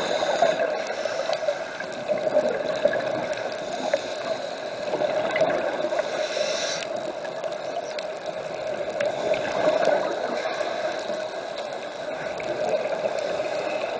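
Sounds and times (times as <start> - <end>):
muffled underwater rush: 0.0 - 13.9
faint clicks: 0.4 - 13.9.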